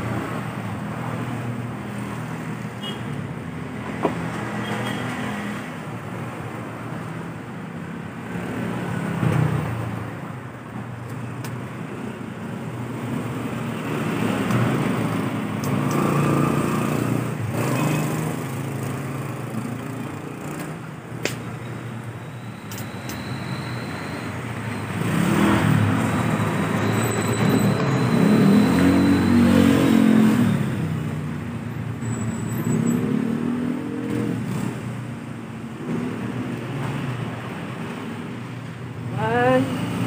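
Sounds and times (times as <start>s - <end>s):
vehicle engines passing: 0.0s - 40.0s.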